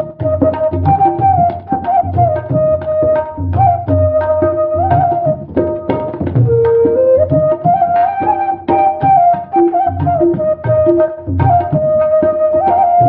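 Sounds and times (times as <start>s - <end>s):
flute melody: 0.0s - 13.0s
tabla drumming: 0.0s - 13.0s.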